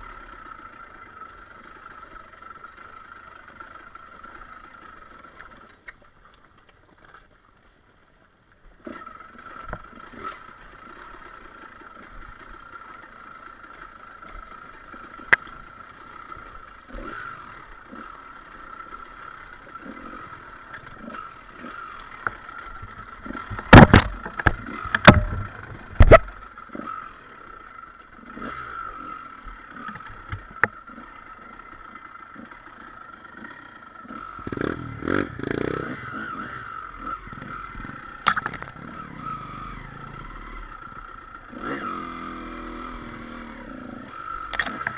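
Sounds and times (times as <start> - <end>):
motorcycle engine whine: 0.0 - 44.9.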